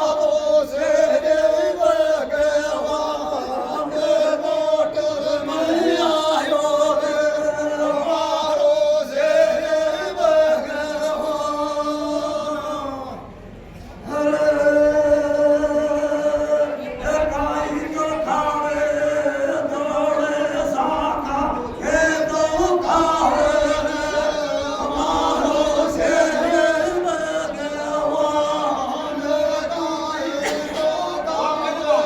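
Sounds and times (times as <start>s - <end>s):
men singing a devotional chant: 0.0s - 32.0s.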